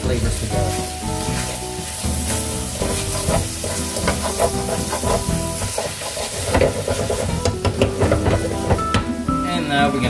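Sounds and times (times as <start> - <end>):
background music with held notes: 0.0 - 10.0
food sizzling in a pan: 0.0 - 10.0
metal utensil scraping pan: 0.6 - 9.0.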